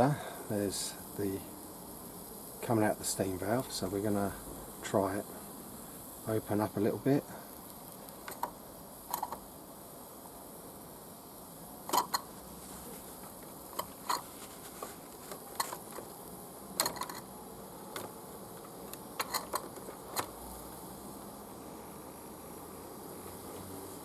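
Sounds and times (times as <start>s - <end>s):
steam hissing: 0.0s - 24.0s.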